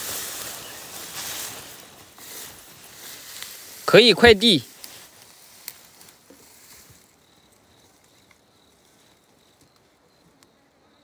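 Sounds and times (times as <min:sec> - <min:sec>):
faint rustling: 0:00.0 - 0:10.0
high insect tone: 0:00.0 - 0:11.0.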